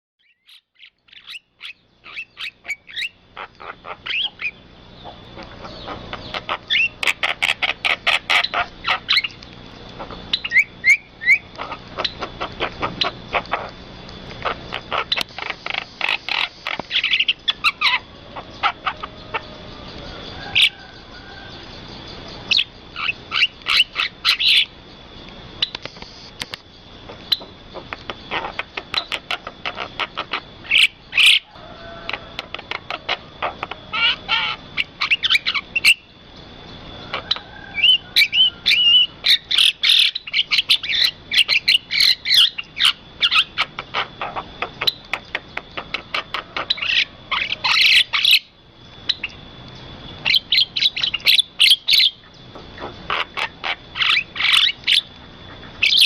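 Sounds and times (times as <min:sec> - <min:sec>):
birds chirping: 0:00.2 - 0:56.0.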